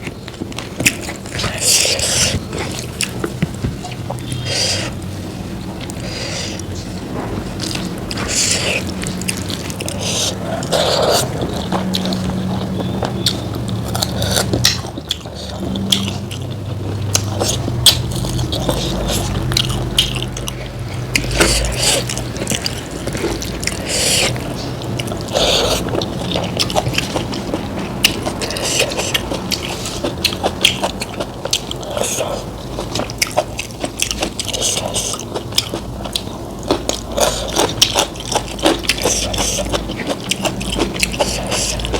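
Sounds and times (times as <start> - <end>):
wet chewing and mouth clicks: 5.8 - 41.9.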